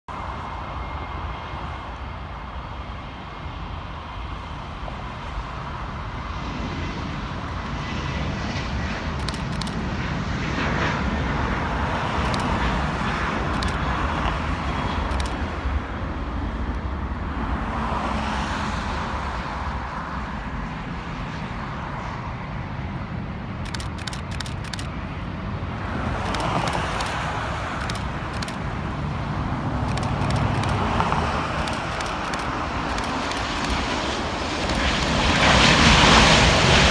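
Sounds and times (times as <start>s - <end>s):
high engine whine: 0.1s - 36.9s
jet engine rumble: 0.1s - 36.9s.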